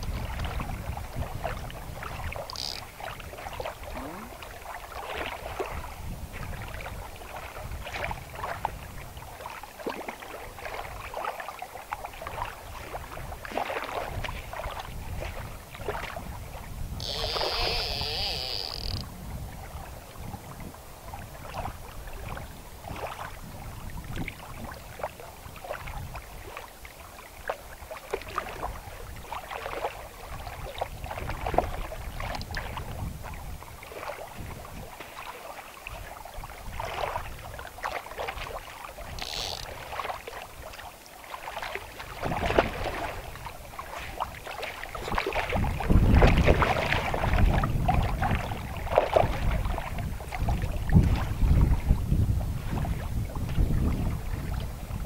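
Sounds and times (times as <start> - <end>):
wind buffeting microphone: 0.0 - 9.4, 12.2 - 26.6, 27.8 - 35.0, 35.8 - 40.8, 41.6 - 55.0
water splashes: 0.0 - 55.0.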